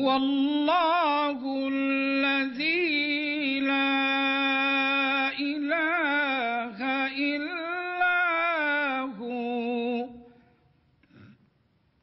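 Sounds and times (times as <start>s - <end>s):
man reciting melodically: 0.0s - 10.4s.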